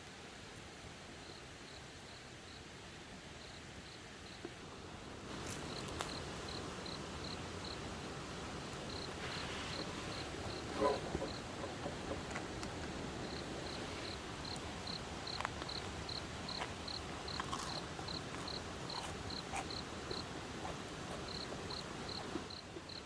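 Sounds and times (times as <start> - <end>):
insect chirping: 0.8 - 23.0.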